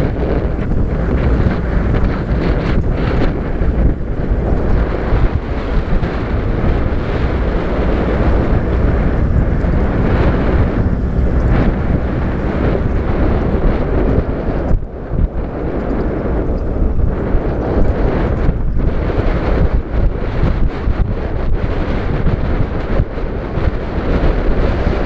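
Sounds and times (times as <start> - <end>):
vehicle engine and road noise: 0.0 - 25.0
wind buffeting microphone: 0.0 - 25.0.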